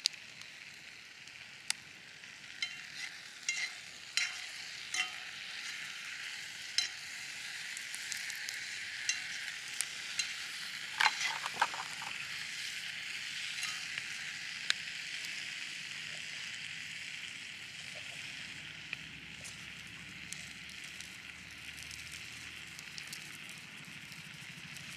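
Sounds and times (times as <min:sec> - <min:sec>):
steak sizzling over fire: 0:00.1 - 0:11.4, 0:12.0 - 0:24.9.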